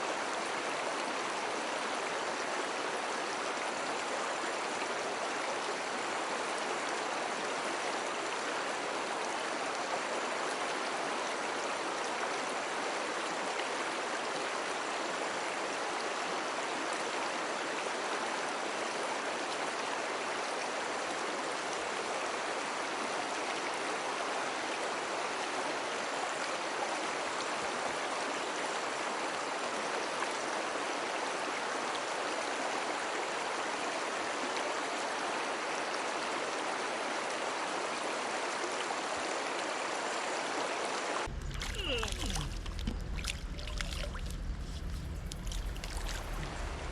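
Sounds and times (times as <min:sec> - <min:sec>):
stream rushing water: 0:00.0 - 0:46.9.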